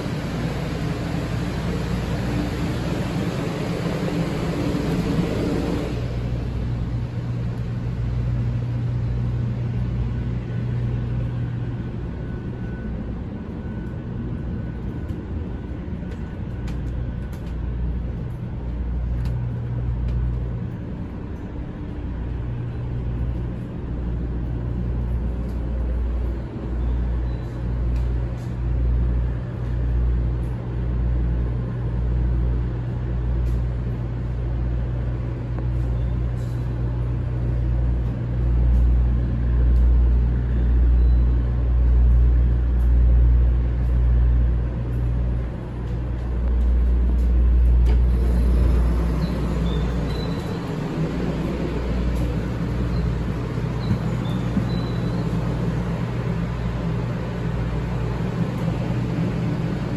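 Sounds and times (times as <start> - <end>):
train interior hum and rumble: 0.0 - 59.9.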